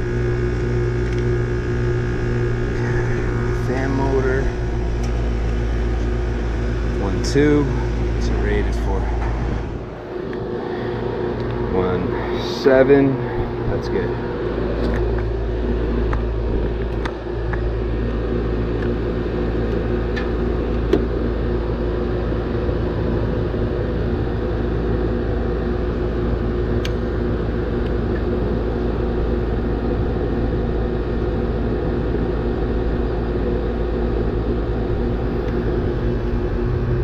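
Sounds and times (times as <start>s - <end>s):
air conditioner unit humming: 0.0s - 37.0s.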